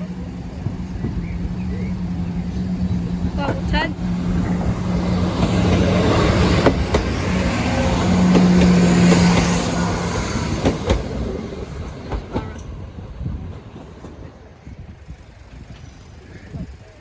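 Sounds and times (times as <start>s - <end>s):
diesel train engine: 0.0s - 17.0s
train wheel noise: 0.0s - 17.0s.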